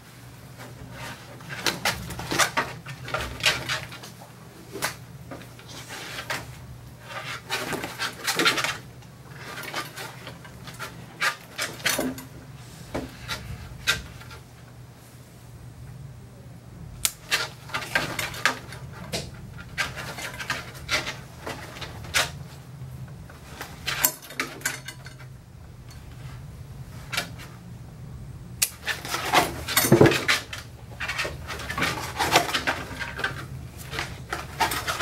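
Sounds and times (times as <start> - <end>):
scraping and rustling: 0.0 - 15.3, 17.1 - 27.8, 28.7 - 35.0.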